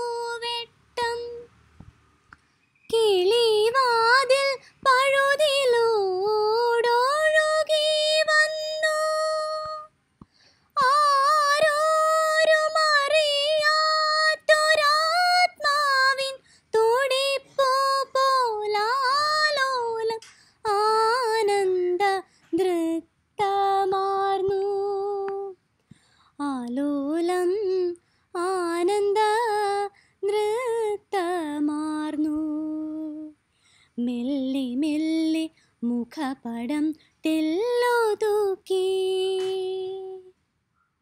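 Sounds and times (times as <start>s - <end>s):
woman singing unaccompanied: 0.0s - 1.5s, 2.8s - 10.0s, 10.7s - 25.6s, 26.4s - 33.4s, 34.0s - 40.4s.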